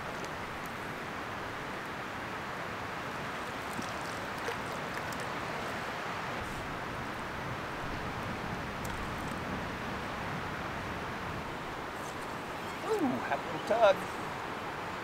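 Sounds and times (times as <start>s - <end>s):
water lapping at bank: 0.0s - 14.9s
wind: 0.0s - 15.0s.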